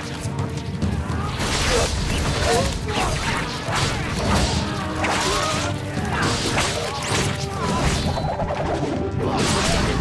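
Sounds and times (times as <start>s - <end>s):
film music score: 0.0s - 10.0s.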